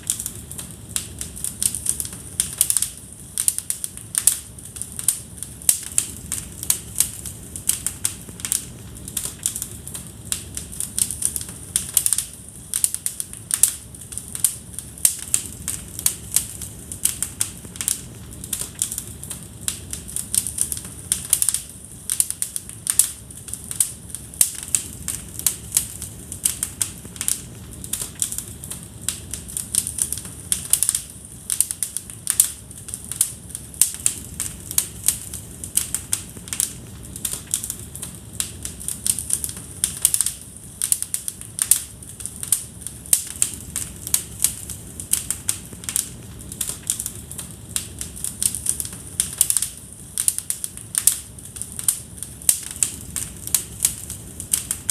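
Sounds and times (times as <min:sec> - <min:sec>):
low rumble of flames: 0:00.0 - 0:54.9
wood fire crackling: 0:00.0 - 0:54.9.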